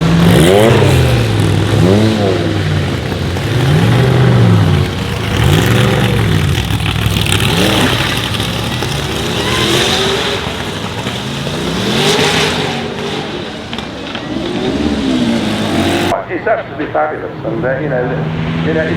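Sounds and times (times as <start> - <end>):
race car engine revving: 0.0 - 16.2.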